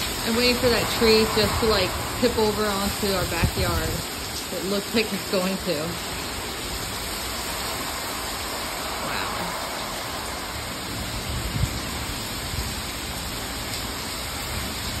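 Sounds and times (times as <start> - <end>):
gusting wind: 0.0 - 15.0
heavy rain pouring: 0.0 - 15.0.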